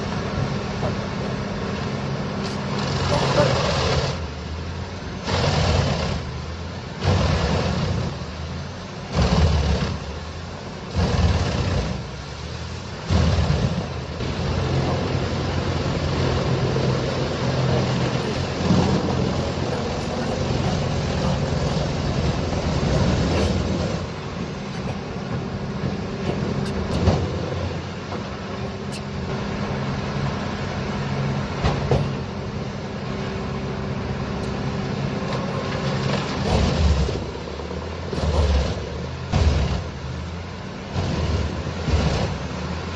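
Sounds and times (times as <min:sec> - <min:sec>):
heavy diesel engine under load: 0:00.0 - 0:42.9.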